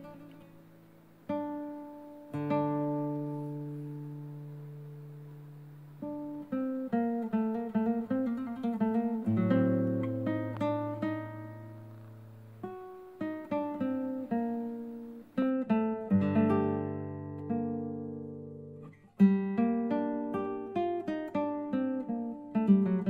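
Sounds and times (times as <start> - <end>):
acoustic guitar plucked notes: 0.0 - 23.0.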